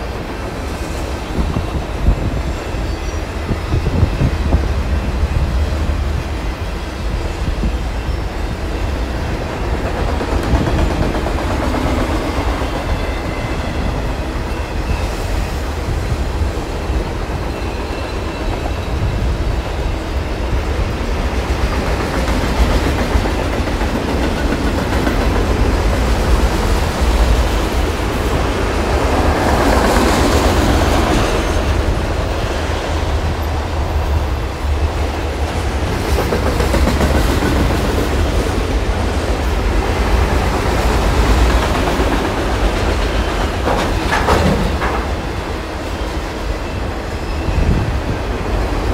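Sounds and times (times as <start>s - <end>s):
freight train wheels rumbling on rails: 0.0s - 48.9s.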